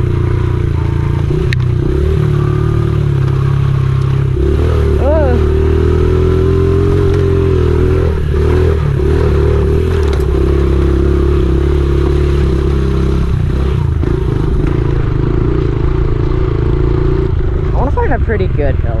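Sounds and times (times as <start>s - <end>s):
small motorbike engine running: 0.0s - 18.7s.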